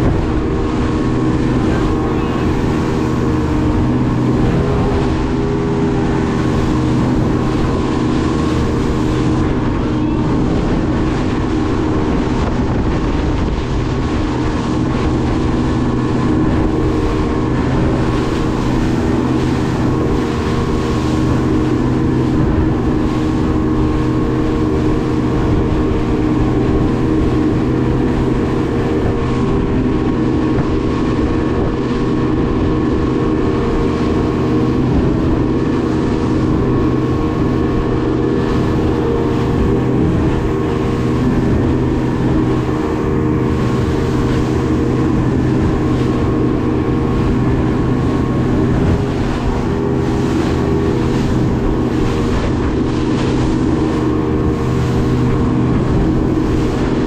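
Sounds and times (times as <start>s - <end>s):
speedboat engine droning: 0.0s - 57.0s
water rushing along hull: 0.0s - 57.0s.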